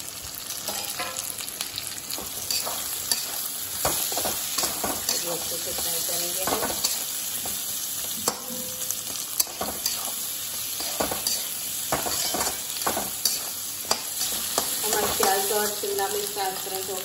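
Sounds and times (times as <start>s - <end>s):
vegetables sizzling in hot oil: 0.0s - 17.0s
metal spatula scraping a pan: 0.7s - 1.4s, 2.2s - 7.6s, 8.2s - 15.8s.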